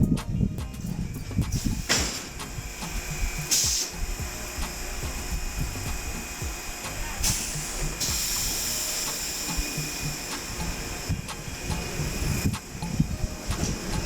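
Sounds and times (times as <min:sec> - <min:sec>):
tram wheels rumbling and knocking: 0:00.7 - 0:14.0
high hiss: 0:00.8 - 0:14.0
steady thin whine: 0:00.8 - 0:14.0.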